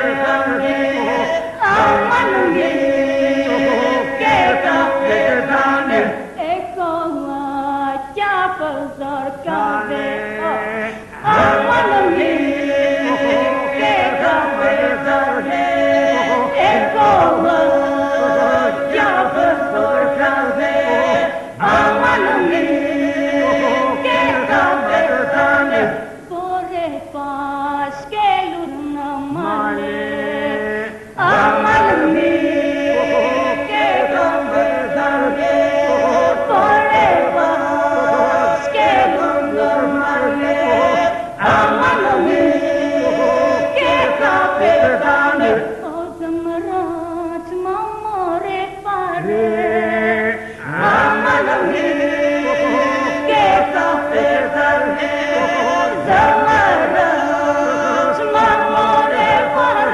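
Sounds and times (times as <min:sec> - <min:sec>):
group singing unaccompanied with drone: 0:00.0 - 0:59.9.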